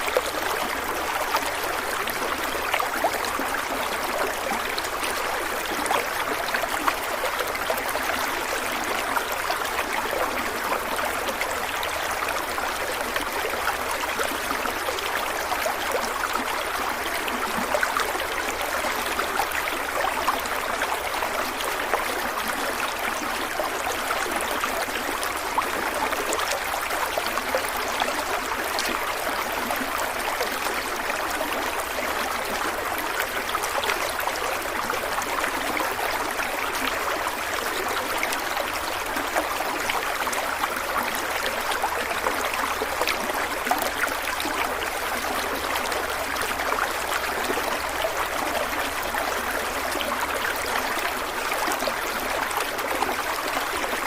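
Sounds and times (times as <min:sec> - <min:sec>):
stream of water running: 0:00.0 - 0:54.0.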